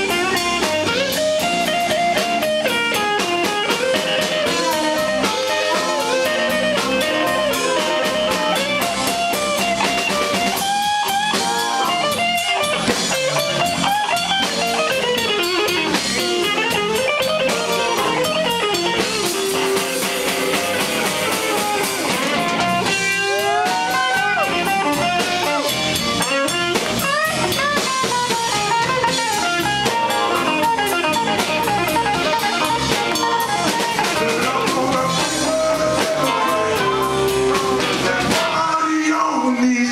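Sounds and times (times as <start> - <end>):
electric guitar bent notes: 0.0 - 38.6
electric blues band playing: 0.0 - 39.9.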